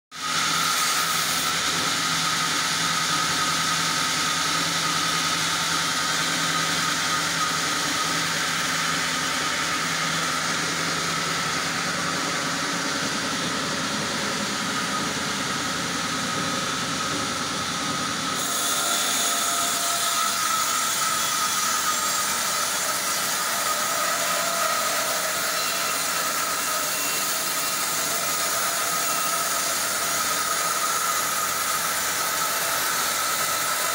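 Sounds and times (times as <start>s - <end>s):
band saw cutting log: 0.2s - 14.9s, 18.0s - 33.9s.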